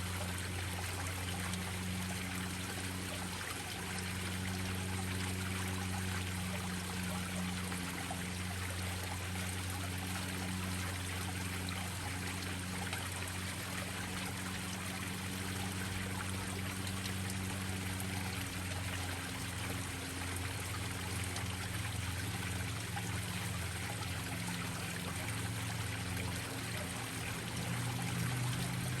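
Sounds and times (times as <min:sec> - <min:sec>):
low steady hum: 0:00.0 - 0:29.0
waterfall splashing into pond: 0:00.0 - 0:29.0.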